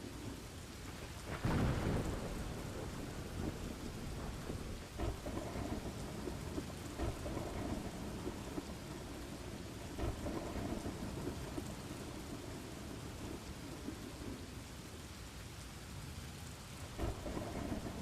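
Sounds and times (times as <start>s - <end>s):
low rumble of thunder: 0.0s - 15.2s, 16.8s - 18.0s
steady rain falling: 0.0s - 18.0s.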